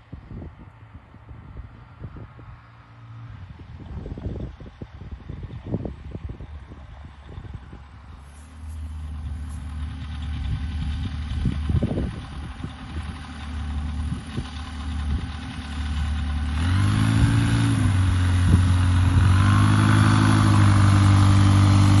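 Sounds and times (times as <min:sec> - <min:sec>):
aircraft engine running: 0:03.5 - 0:22.0.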